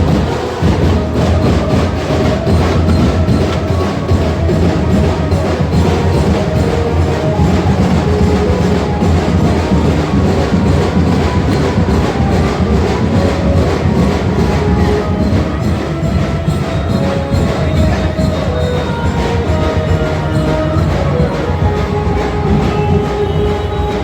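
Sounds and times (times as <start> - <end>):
procession drums and percussion: 0.0 - 24.0.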